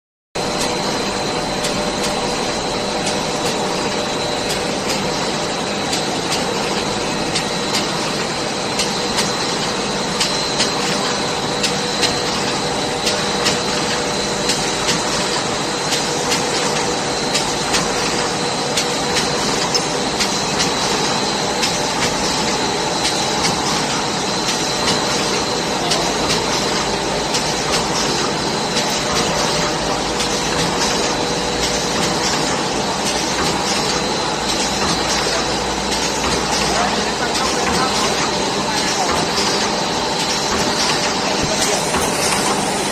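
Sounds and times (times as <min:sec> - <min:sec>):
machine humming with high whine: 0:00.4 - 0:42.9.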